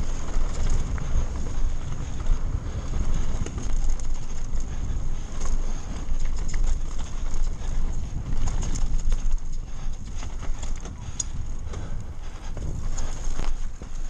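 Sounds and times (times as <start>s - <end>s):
bike rattles and clicks: 0.0s - 14.0s
tyre noise on dirt: 0.0s - 14.0s
wind rumble on microphone: 0.0s - 14.0s.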